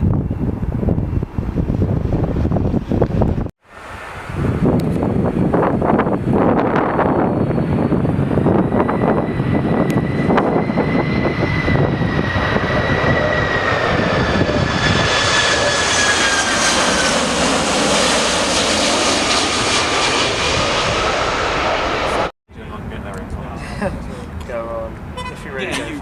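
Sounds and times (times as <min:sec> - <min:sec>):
wind rumbling on microphone: 0:00.0 - 0:25.4
jet engines roaring: 0:00.0 - 0:26.0.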